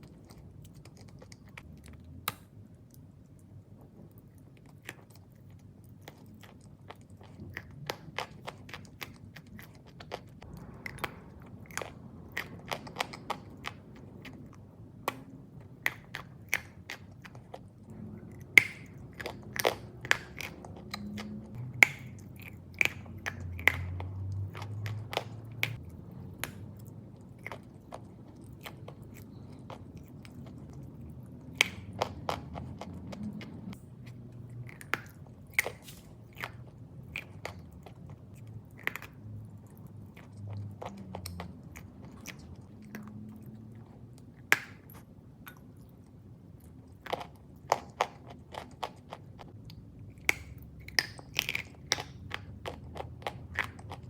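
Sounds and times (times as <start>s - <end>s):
low chewing noise: 0.0s - 54.0s.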